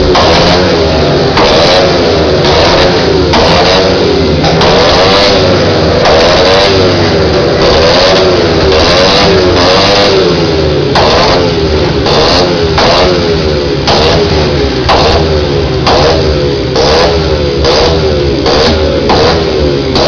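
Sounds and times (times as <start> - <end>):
engine revving in throttle blips: 0.0 - 20.0.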